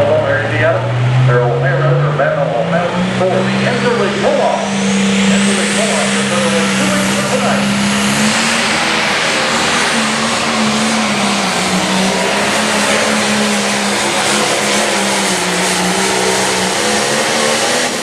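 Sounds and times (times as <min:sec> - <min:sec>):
pulling tractor diesel engine revving: 0:00.0 - 0:18.0.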